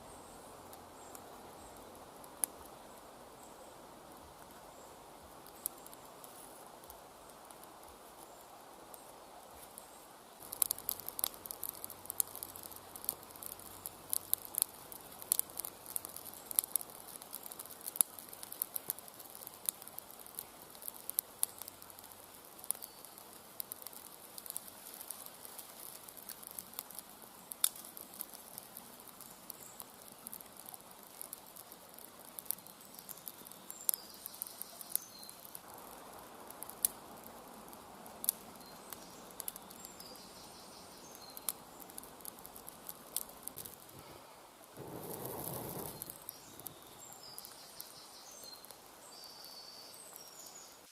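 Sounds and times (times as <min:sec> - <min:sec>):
faint hiss: 0:00.0 - 0:50.9
stick fire crackling: 0:00.2 - 0:03.2, 0:04.1 - 0:50.5.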